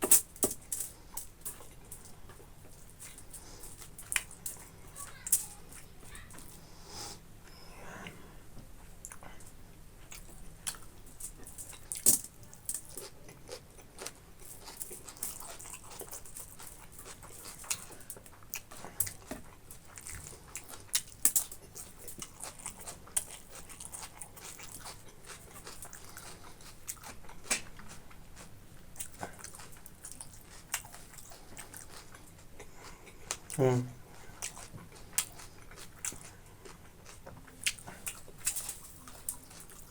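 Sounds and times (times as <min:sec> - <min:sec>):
wet chewing and smacking: 0:01.0 - 0:06.6, 0:09.0 - 0:09.4, 0:10.0 - 0:39.9.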